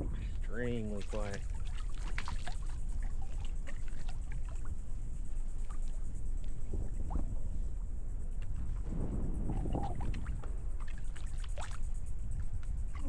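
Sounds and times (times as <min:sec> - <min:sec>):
small waves lapping: 0:00.0 - 0:07.8, 0:09.6 - 0:13.0
steady low rumble: 0:00.0 - 0:13.0
small ticks and splashes: 0:00.3 - 0:07.4, 0:08.2 - 0:13.0.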